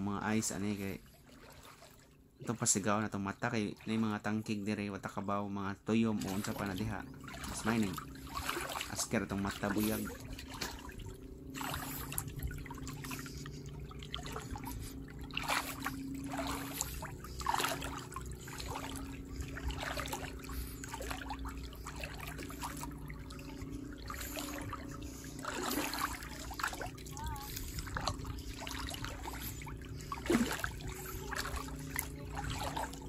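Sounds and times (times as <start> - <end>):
small water splashes: 0.0 - 2.8, 6.1 - 33.0
seawater splashing and trickling: 0.0 - 4.9, 6.0 - 33.0.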